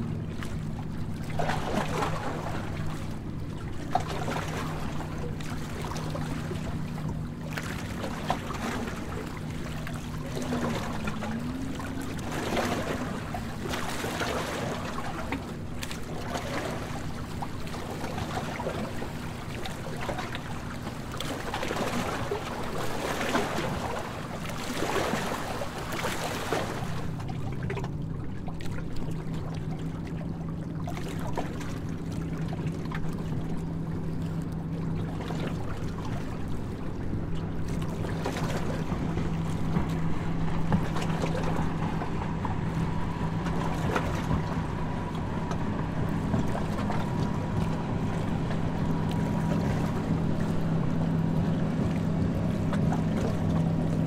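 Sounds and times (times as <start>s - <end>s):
boat engine hum: 0.0s - 54.0s
water rushing: 0.0s - 54.0s.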